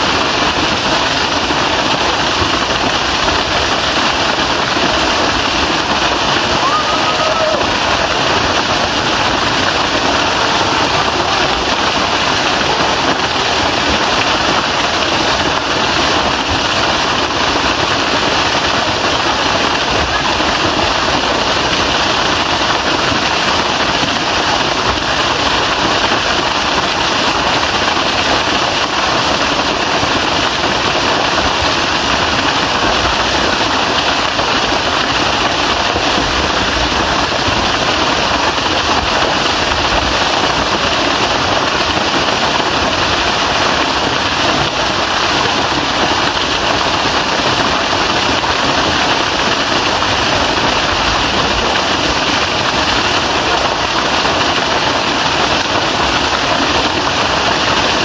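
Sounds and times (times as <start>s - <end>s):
waterfall pouring into pool: 0.0s - 58.0s.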